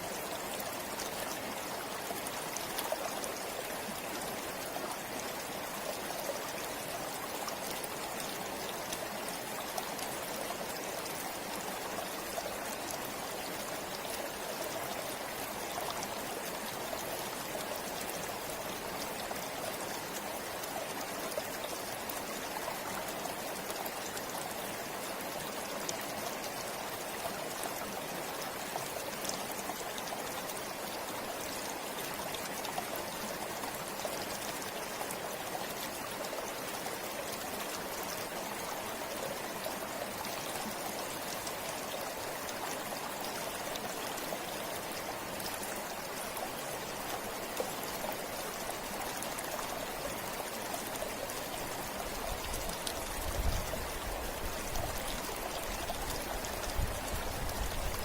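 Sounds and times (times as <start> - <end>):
river water flowing over rocks: 0.0 - 58.0.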